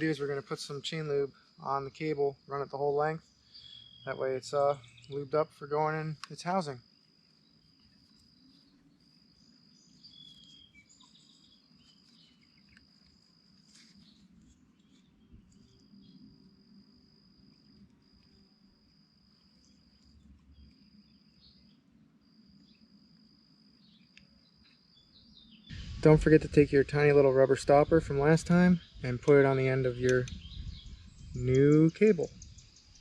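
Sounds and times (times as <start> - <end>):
insect trilling: 0.0 - 33.0.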